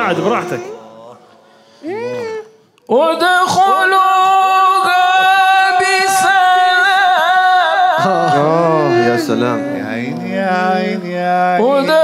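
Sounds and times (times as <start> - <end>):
man chanting recitation: 0.0 - 1.3, 1.9 - 12.0.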